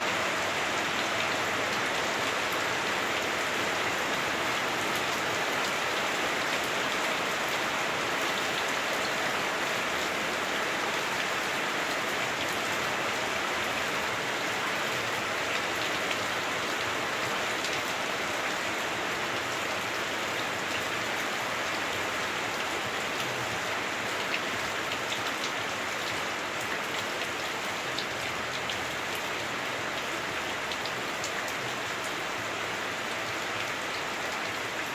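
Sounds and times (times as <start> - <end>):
heavy rain on roof: 0.0 - 34.9.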